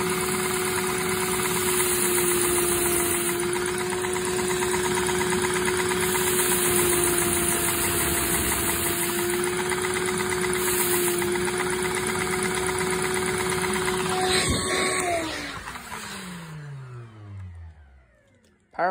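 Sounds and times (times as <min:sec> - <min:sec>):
engine clattering: 0:00.0 - 0:18.6
vacuum motor whine: 0:00.0 - 0:18.6.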